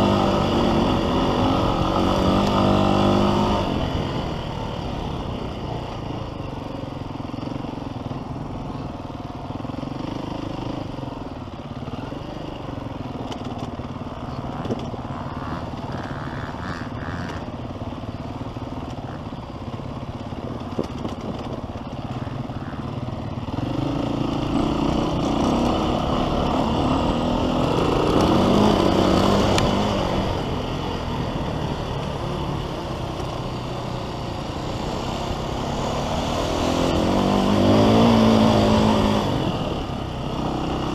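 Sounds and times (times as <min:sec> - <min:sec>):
dirt bike engine revving: 0:00.0 - 0:05.1, 0:11.7 - 0:40.9.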